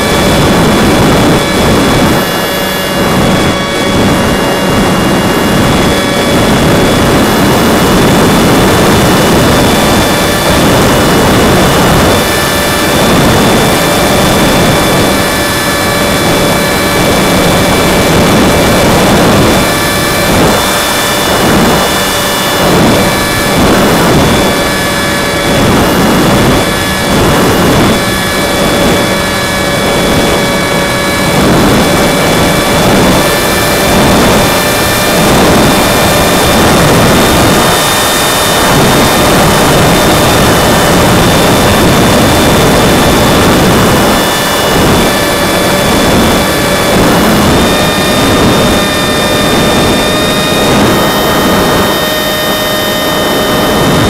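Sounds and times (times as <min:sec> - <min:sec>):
electric motor and propeller whine: 0:00.0 - 0:54.0
wind buffeting microphone: 0:00.0 - 0:54.0.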